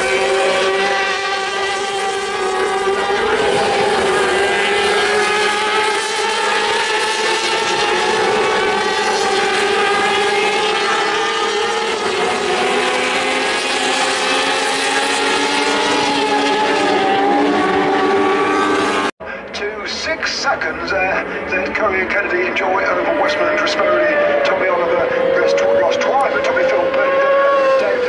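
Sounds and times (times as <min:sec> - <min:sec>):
race motorcycle engines revving: 0:00.0 - 0:28.0.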